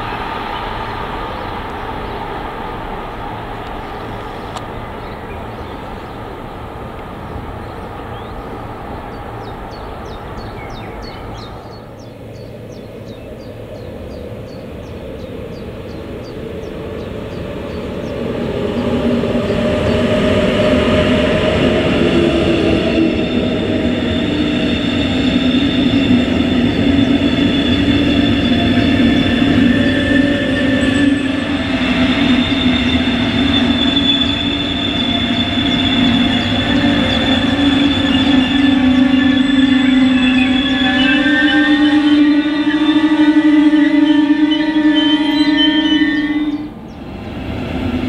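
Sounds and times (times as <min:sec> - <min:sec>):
distant freight train rolling: 0:00.0 - 0:48.0
passenger train passing close by: 0:00.0 - 0:48.0
train whining tones: 0:00.0 - 0:48.0.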